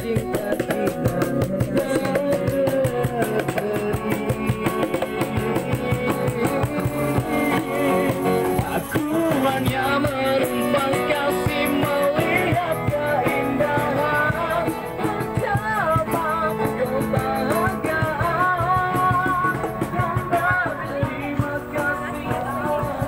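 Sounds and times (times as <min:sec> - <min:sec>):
cajon beat: 0:00.0 - 0:23.0
person singing: 0:00.0 - 0:23.0
strummed acoustic guitar: 0:00.0 - 0:23.0.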